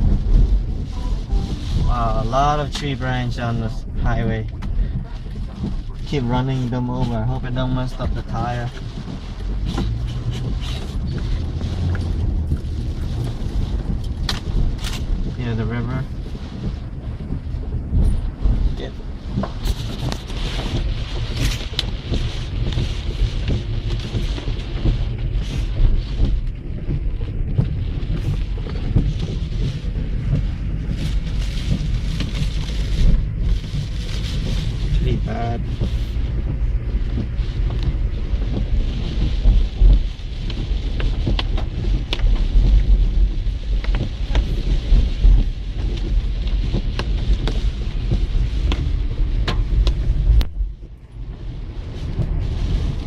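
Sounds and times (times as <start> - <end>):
road and engine rumble: 0.0 - 53.0
wind buffeting microphone: 0.0 - 53.0.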